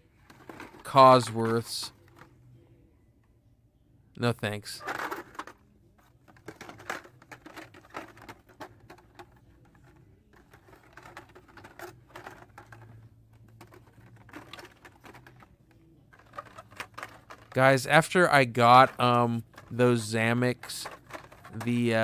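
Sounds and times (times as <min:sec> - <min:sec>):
plastic packs clicking and rustling: 0:00.2 - 0:02.2, 0:04.8 - 0:05.6, 0:06.2 - 0:15.5, 0:16.1 - 0:22.0.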